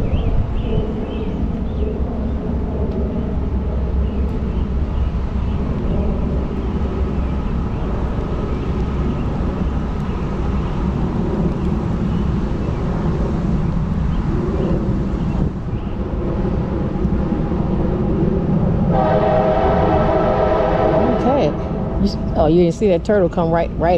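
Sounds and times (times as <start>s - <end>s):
passing vehicle rumble: 0.0s - 23.9s.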